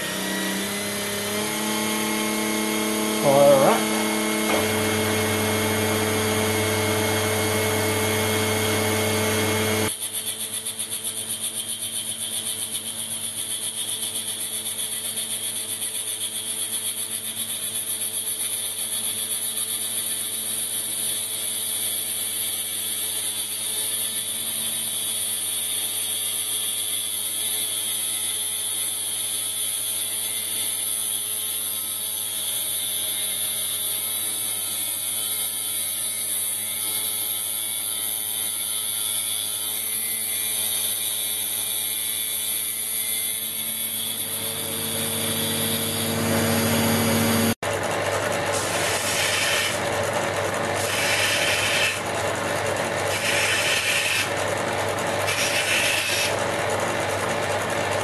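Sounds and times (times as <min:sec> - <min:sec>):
grinder motor whine: 0:00.0 - 0:58.0.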